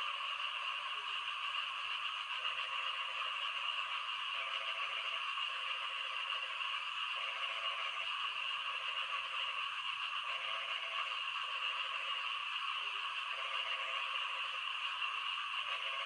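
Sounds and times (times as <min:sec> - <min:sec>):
frog chorus: 0:00.0 - 0:16.0
low rattling frog calls: 0:00.0 - 0:16.0.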